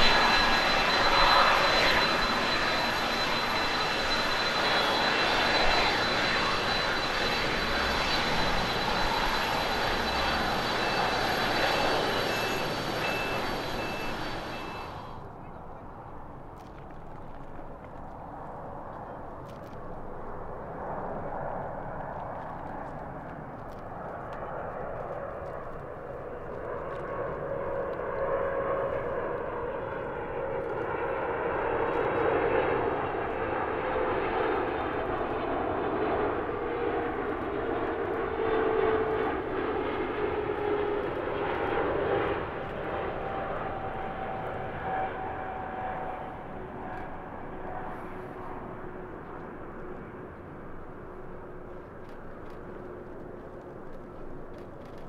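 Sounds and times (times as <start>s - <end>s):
jet airliner passing: 0.0s - 55.0s.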